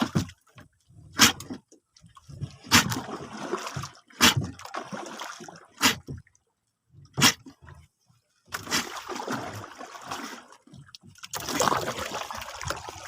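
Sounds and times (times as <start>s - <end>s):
water sloshing and trickling: 0.0s - 13.0s
water splashing: 0.0s - 13.0s.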